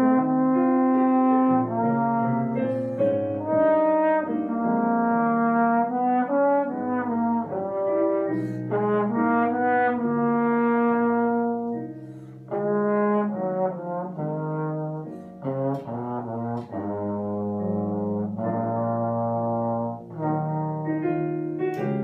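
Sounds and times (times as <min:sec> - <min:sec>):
piano accompaniment: 0:00.0 - 0:22.0
slide trombone melody: 0:00.0 - 0:22.0.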